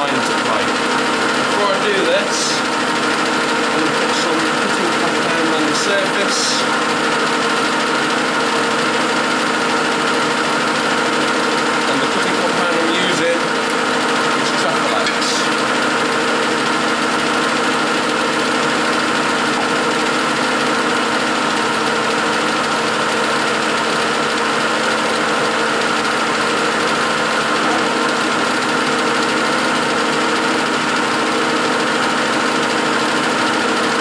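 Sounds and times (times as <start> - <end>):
lathe running: 0.0 - 34.0.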